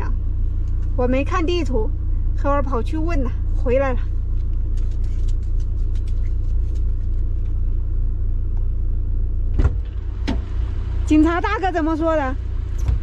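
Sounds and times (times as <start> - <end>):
engine idling low rumble: 0.0 - 13.0.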